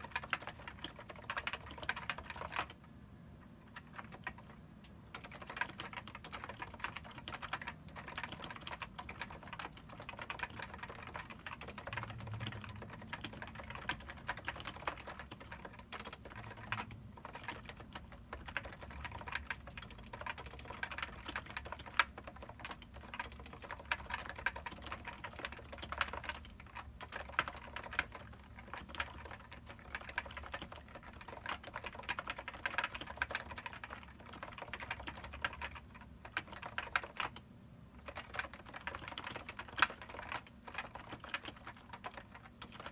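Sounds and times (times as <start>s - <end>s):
keyboard typing: 0.0s - 2.9s, 3.5s - 37.4s, 38.0s - 42.9s.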